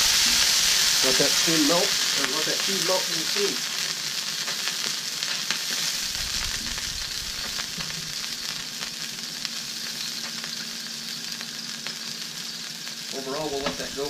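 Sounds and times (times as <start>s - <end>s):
water sizzling on hot griddle: 0.0s - 14.0s.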